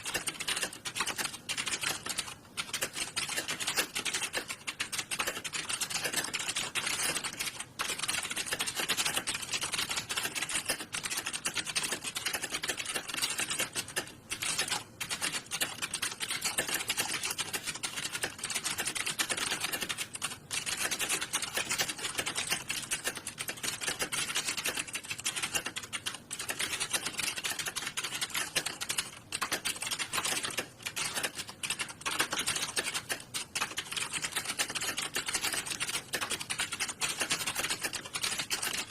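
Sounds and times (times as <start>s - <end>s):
computer keyboards typing: 0.0s - 38.9s.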